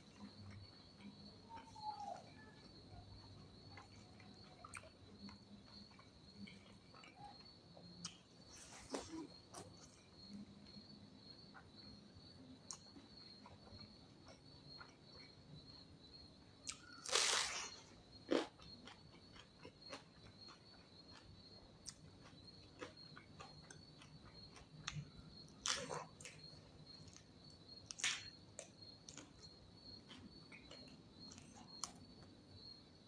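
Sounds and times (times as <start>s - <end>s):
crunchy chewing: 0.0s - 32.9s.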